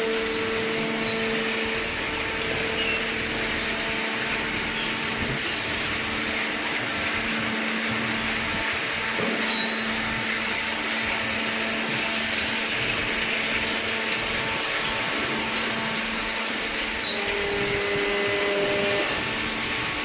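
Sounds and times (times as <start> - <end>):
baler machinery hum and whine: 0.0 - 20.0.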